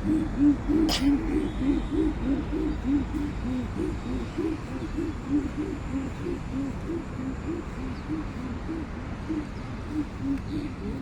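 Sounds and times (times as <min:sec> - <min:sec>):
bird hooting: 0:00.0 - 0:11.0.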